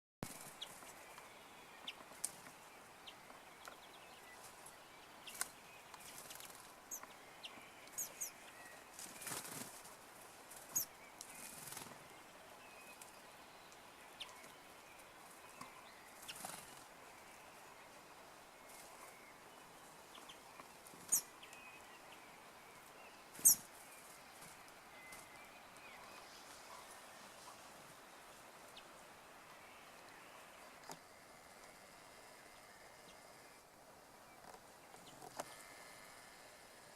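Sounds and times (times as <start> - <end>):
small birds chirping: 0.2 - 36.9.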